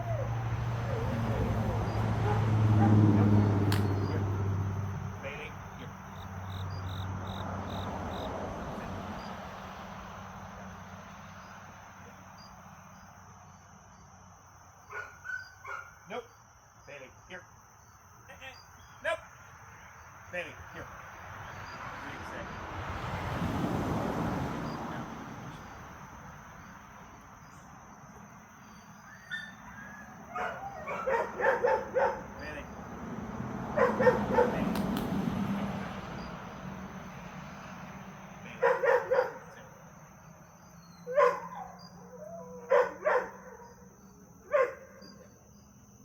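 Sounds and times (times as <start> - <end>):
crickets chirping: 0.0 - 46.0
high insect drone: 0.0 - 46.0.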